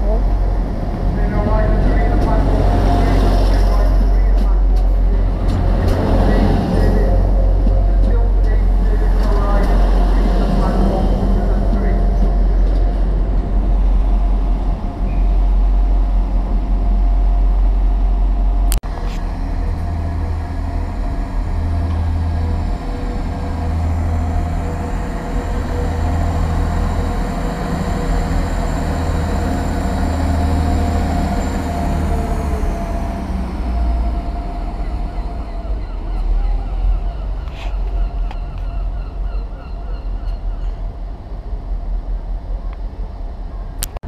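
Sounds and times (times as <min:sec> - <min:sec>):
pulsing diesel engine rumble: 0:00.0 - 0:43.9
steady train whine: 0:00.0 - 0:44.0.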